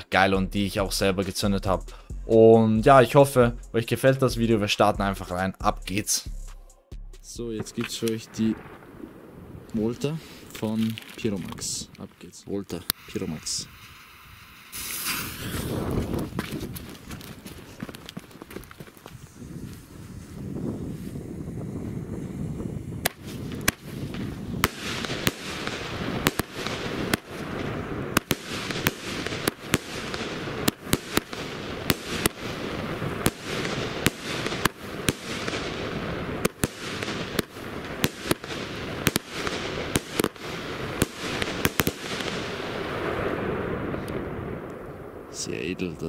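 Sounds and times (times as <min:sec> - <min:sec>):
fireworks bangs: 0:04.9 - 0:11.9, 0:13.2 - 0:19.6, 0:22.4 - 0:45.9
fireworks crackling and hissing: 0:07.6 - 0:45.9.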